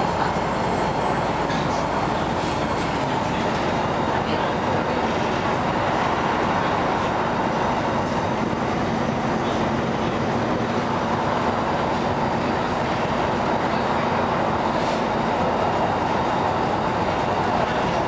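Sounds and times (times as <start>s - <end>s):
bus engine hum: 0.0s - 18.0s
road and tyre noise: 0.0s - 18.0s.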